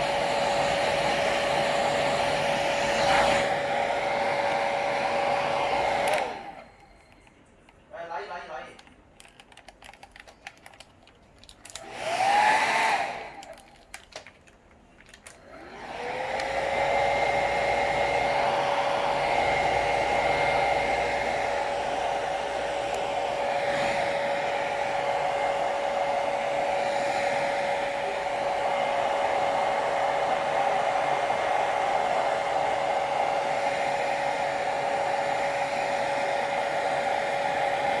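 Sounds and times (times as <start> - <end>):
hair dryer whine and air rush: 0.0 - 6.9, 11.7 - 13.6, 15.4 - 38.0
hair dryer switch: 0.0 - 7.3, 11.6 - 14.3, 15.1 - 38.0.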